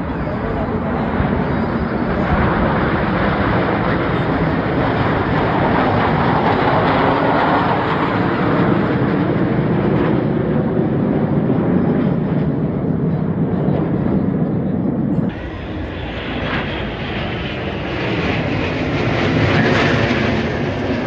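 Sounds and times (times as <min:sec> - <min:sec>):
jet aircraft flying past: 0:00.0 - 0:21.0.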